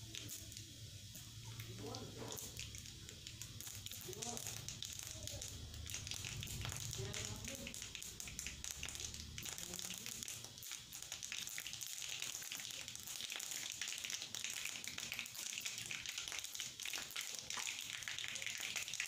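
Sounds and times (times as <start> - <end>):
spice seeds crackling in hot oil: 0.0 - 19.0.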